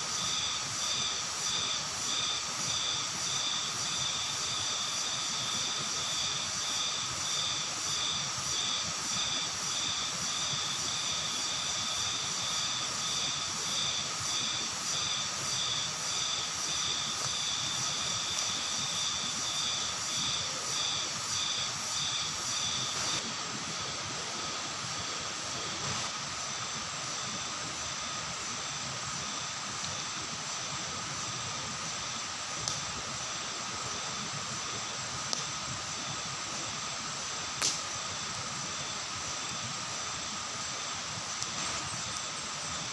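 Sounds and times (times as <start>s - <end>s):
cicadas and crickets shrilling: 0.0s - 42.9s
pulsing insect call: 0.0s - 42.9s.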